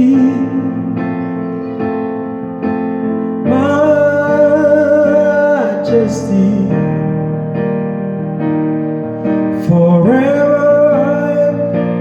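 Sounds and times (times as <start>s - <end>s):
electric piano chords: 0.0s - 12.0s.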